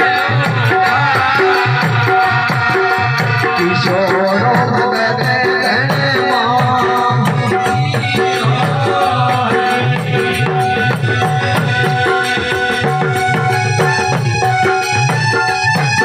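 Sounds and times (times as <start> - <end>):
high jingling percussion: 0.0 - 16.0
steady drum beat: 0.0 - 16.0.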